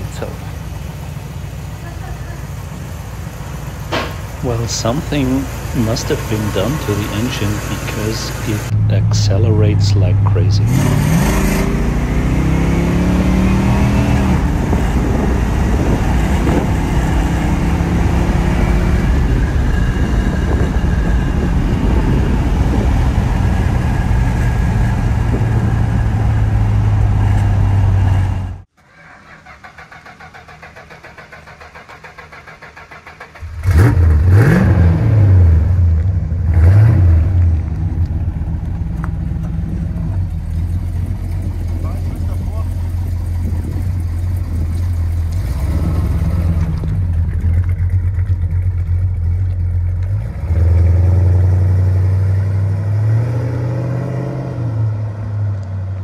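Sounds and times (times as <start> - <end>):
car engine idling: 0.0 - 10.8, 13.9 - 52.2
car engine accelerating: 0.0 - 28.7, 29.4 - 56.0
engine revving in quick blips: 3.8 - 20.1, 21.9 - 55.8.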